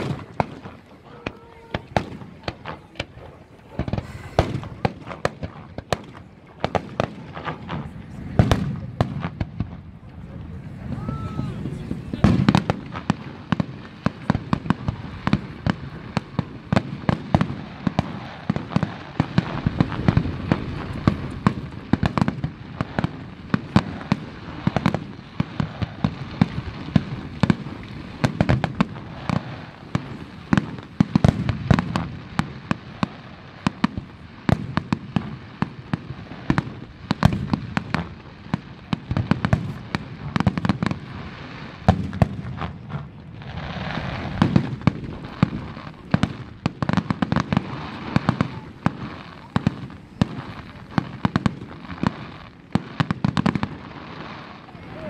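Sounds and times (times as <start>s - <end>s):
firework bursts and bangs: 0.0s - 55.0s
hissing crackle of fireworks: 0.0s - 55.0s.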